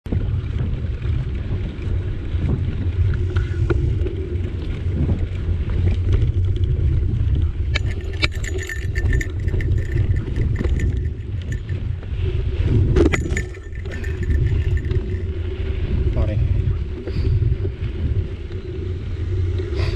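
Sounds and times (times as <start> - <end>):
wind and trail vibration rumble: 0.0 - 19.9
bike rattling and clicking: 0.1 - 19.9.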